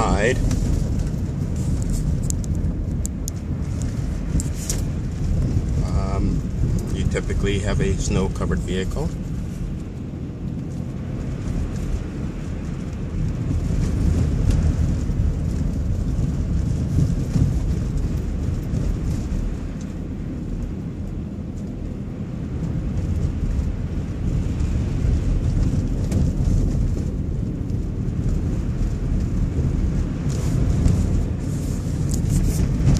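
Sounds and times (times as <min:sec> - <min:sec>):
car engine and tyres rumbling: 0:00.0 - 0:32.9.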